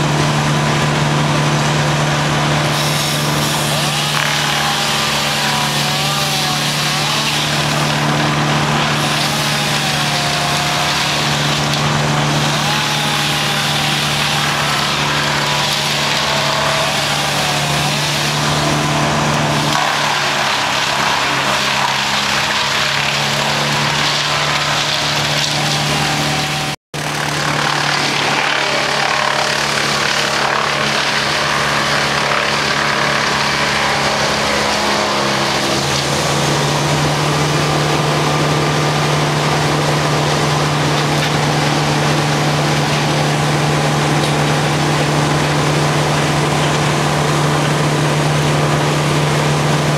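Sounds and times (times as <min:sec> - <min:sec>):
wood chipper engine running: 0:00.0 - 0:49.9.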